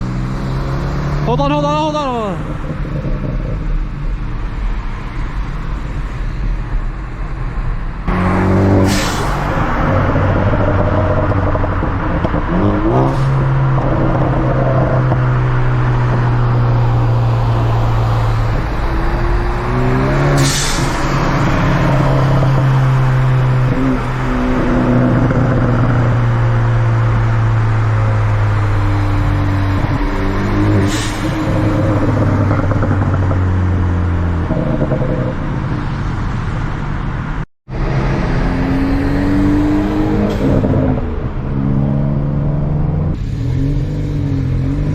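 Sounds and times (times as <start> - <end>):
car engine revving: 0.0 - 4.9, 8.0 - 44.9.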